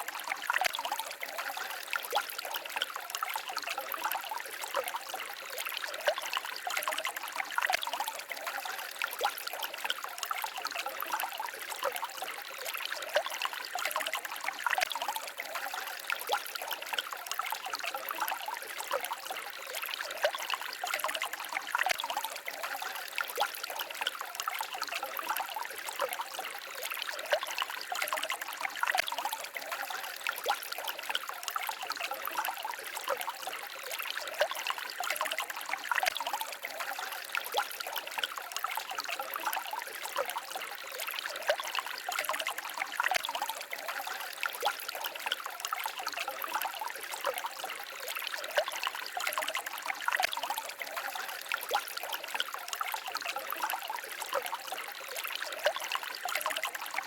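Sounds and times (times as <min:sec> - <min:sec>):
stream babbling over stones: 0:00.0 - 0:57.0.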